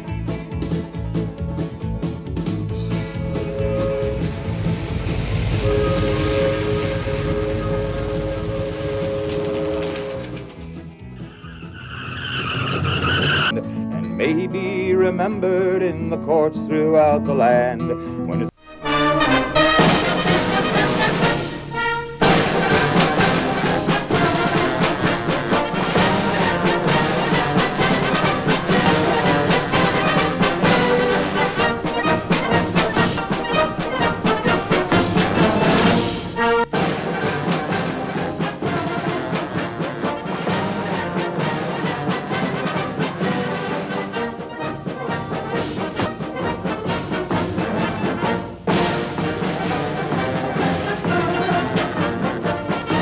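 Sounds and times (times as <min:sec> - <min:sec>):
orchestral music with brass: 0:00.0 - 0:17.1, 0:18.0 - 0:53.0.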